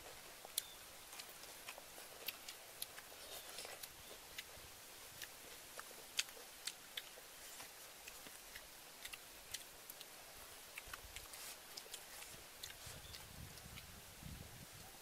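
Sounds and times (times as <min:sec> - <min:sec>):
people chewing and eating: 0:00.0 - 0:14.0
faint steady hiss: 0:00.0 - 0:15.0.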